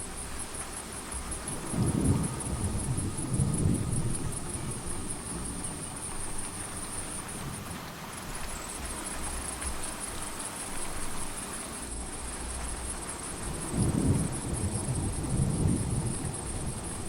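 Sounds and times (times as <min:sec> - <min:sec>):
crickets chirring: 0:00.0 - 0:17.0
steady rain: 0:00.0 - 0:17.0.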